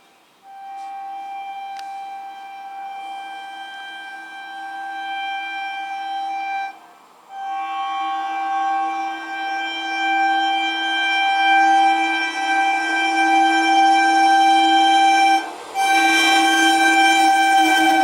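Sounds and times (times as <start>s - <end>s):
train air horn blasts: 0.4s - 18.0s.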